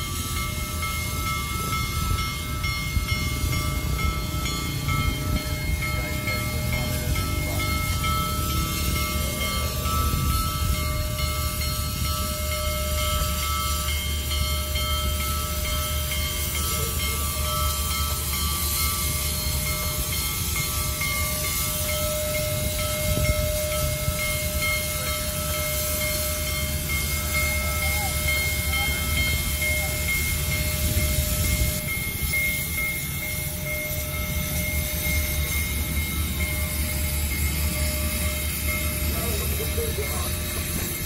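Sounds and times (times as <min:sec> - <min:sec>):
steady high tones: 0:00.0 - 0:41.0
steam locomotive rumble and hiss: 0:00.0 - 0:41.0.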